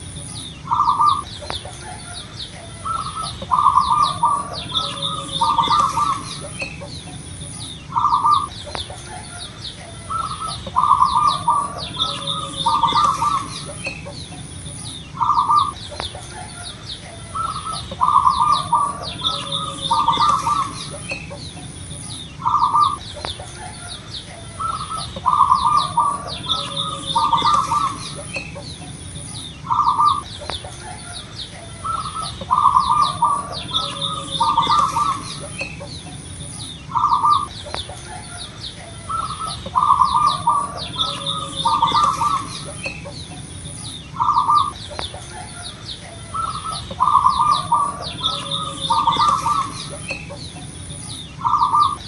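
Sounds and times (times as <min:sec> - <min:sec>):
dove cooing: 0:00.0 - 0:52.0
small birds chirping: 0:00.0 - 0:52.0.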